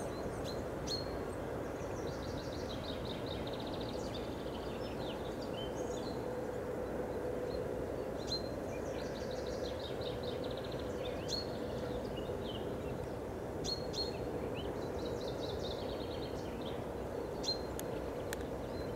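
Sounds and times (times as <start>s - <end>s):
songbirds trilling and chirping: 0.0s - 18.9s.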